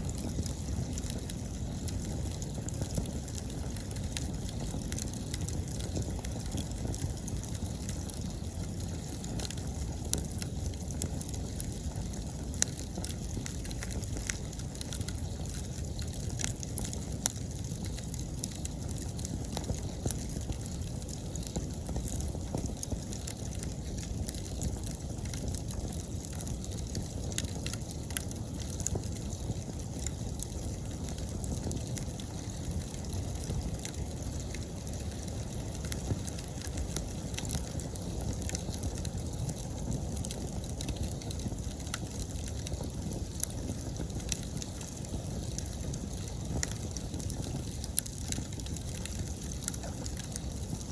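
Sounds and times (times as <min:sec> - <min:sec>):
wood crackling and popping: 0:00.0 - 0:50.9
wood fire burning: 0:00.0 - 0:50.9.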